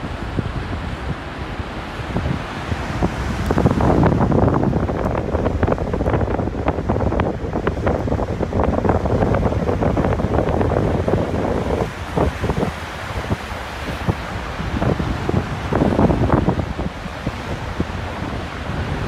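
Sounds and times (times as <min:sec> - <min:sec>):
surf breaking on shore: 0:00.0 - 0:19.0
wind buffeting microphone: 0:00.0 - 0:19.0.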